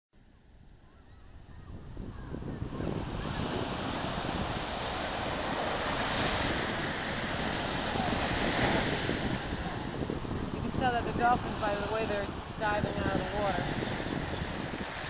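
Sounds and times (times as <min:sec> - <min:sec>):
wind buffeting microphone: 0:00.4 - 0:15.0
ocean surf washing in: 0:01.3 - 0:15.0.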